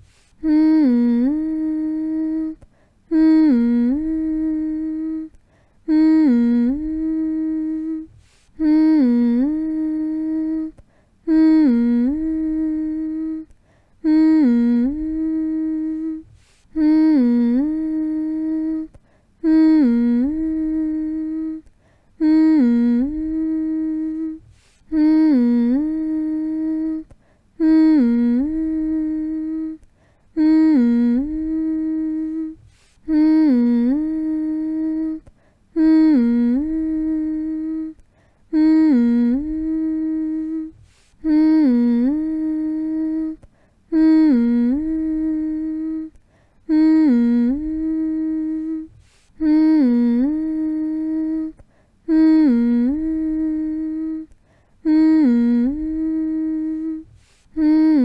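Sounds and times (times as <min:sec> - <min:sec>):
person humming to a baby: 0:00.0 - 0:58.0.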